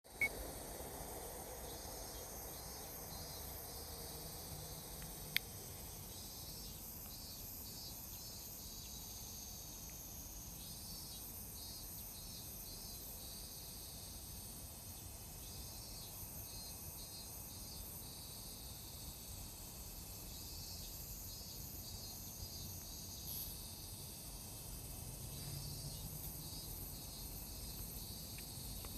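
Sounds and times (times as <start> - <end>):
high shrill insect song: 0.1 - 28.9
rapidly pulsing insect call: 0.1 - 28.9.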